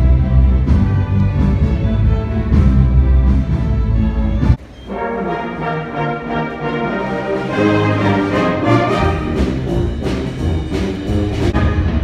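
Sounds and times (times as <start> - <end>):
concert band brass chords: 0.0 - 12.0.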